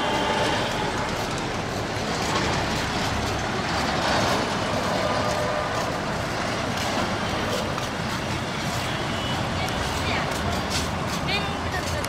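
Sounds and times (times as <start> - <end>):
vehicles rushing past: 0.0 - 12.0.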